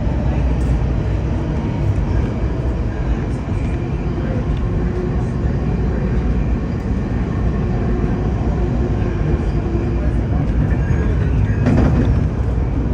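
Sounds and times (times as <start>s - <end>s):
train wheels rumbling on track: 0.0s - 12.9s.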